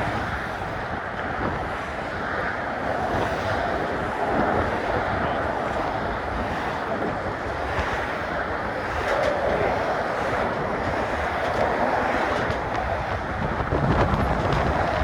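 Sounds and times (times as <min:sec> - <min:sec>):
traffic going by: 0:00.0 - 0:15.0
wind buffeting microphone: 0:00.0 - 0:15.0.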